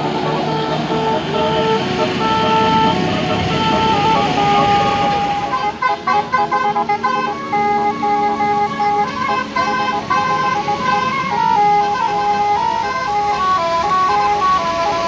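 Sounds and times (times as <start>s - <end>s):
bus melody horn playing tune: 0.0s - 15.0s.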